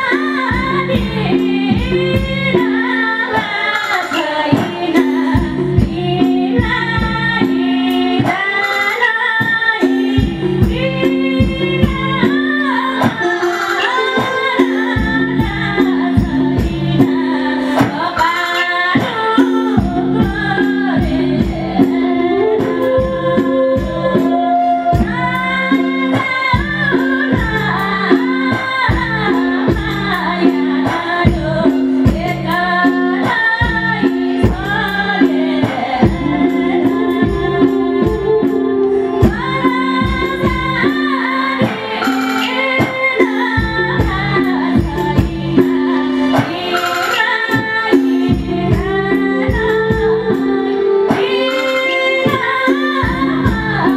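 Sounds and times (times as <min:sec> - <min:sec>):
keyboard: 0:00.0 - 0:53.9
repeating drum rhythm: 0:00.0 - 0:53.9
woman singing into a microphone: 0:00.0 - 0:53.9.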